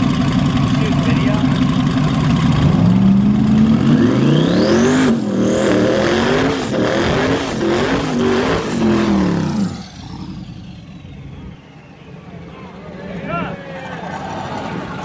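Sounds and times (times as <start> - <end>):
car engine accelerating hard: 0.0 - 12.7.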